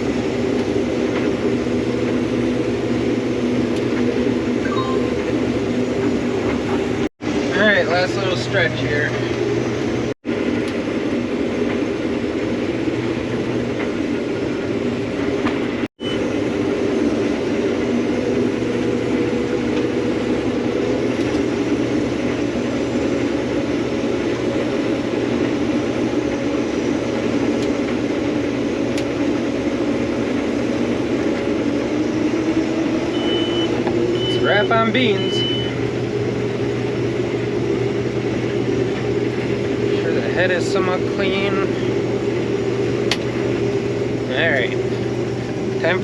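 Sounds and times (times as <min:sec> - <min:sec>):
combine harvester droning: 0:00.0 - 0:46.0.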